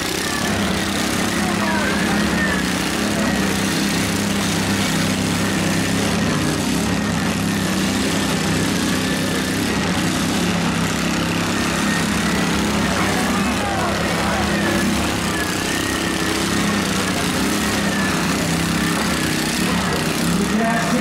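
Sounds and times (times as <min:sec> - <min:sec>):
small lawnmower engines running: 0:00.0 - 0:21.0.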